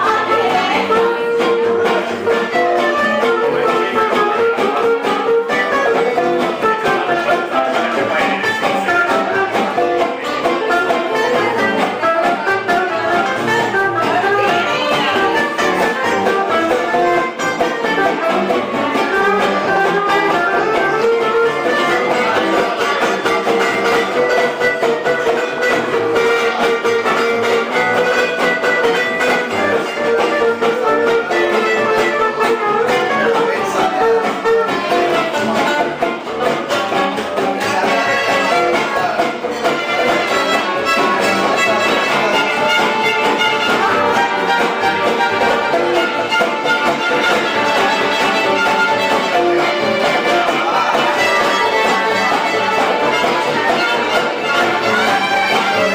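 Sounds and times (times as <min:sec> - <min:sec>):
live band playing instrumental: 0:00.0 - 0:55.9.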